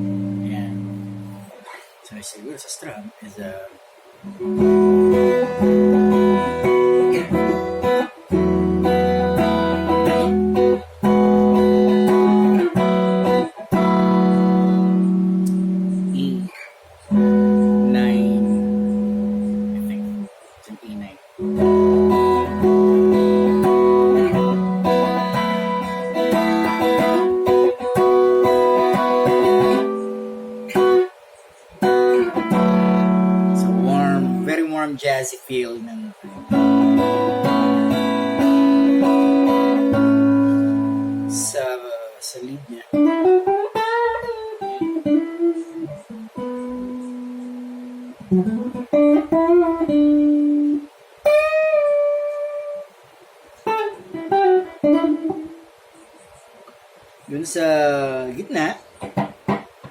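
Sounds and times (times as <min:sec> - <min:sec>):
electric guitar playing: 0:00.0 - 0:01.7, 0:04.2 - 0:20.4, 0:21.2 - 0:34.9, 0:35.9 - 0:55.9, 0:57.6 - 0:59.9.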